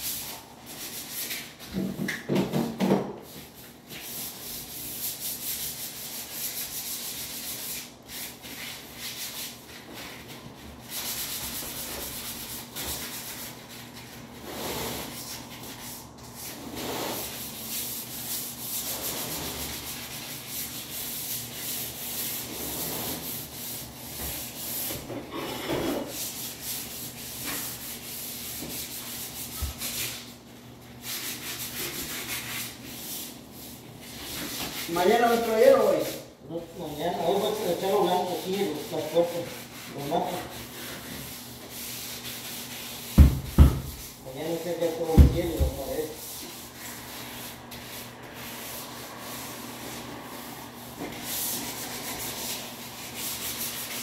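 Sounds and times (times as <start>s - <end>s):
sandpaper rubbing on wall: 0.0s - 54.0s.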